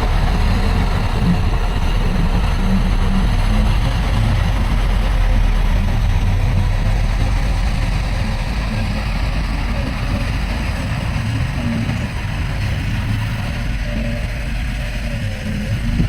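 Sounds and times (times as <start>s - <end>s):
diesel earthmoving machinery running: 0.0s - 16.0s.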